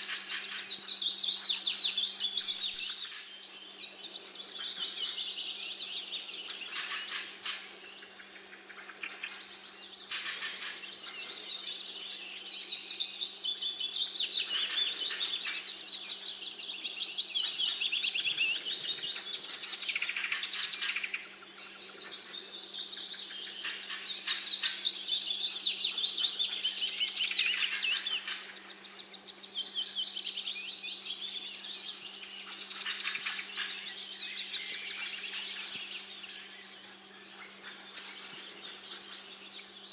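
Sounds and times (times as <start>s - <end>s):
songbirds singing trilled phrases: 0.0s - 39.9s.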